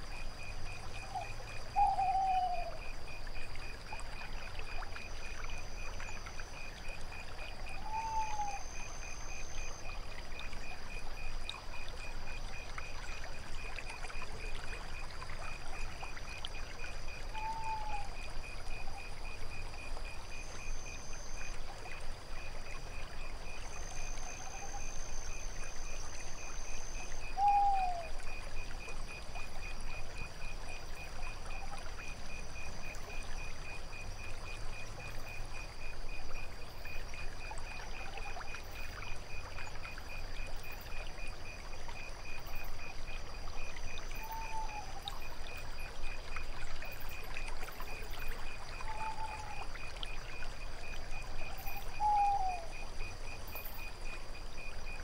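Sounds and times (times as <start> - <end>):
crickets chirping: 0.0 - 55.0
water trickling: 0.0 - 55.0.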